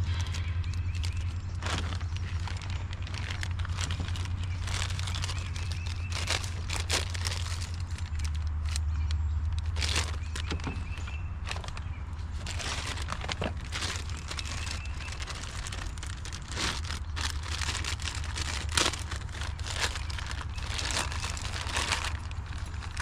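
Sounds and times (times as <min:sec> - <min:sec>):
packaging rustling and crinkling: 0:00.0 - 0:23.0
steady low hum: 0:00.0 - 0:23.0.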